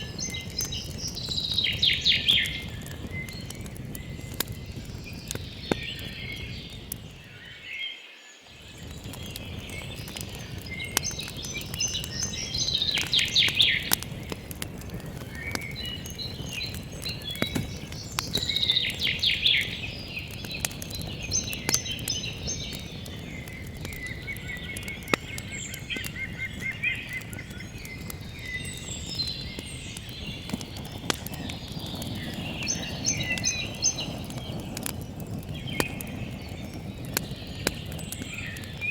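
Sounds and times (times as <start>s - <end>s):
campfire crackling and popping: 0.0s - 7.8s, 8.4s - 38.9s
birds singing and calling: 0.0s - 38.9s.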